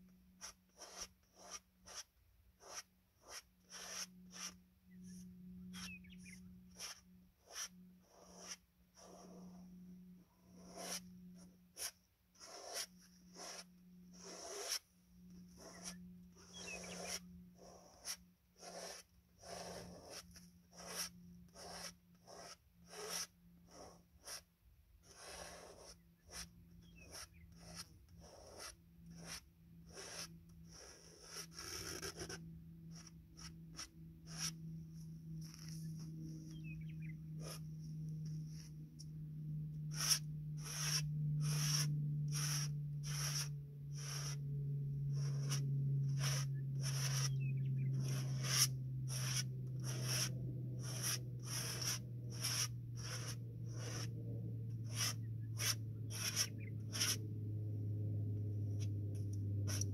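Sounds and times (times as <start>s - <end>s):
paint strokes on canvas: 0.0s - 57.3s, 58.2s - 59.9s.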